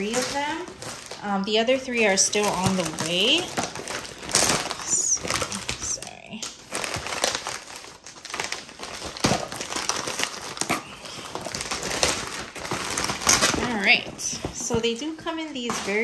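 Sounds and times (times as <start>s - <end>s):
plastic mailer bag crinkling: 0.0s - 16.0s.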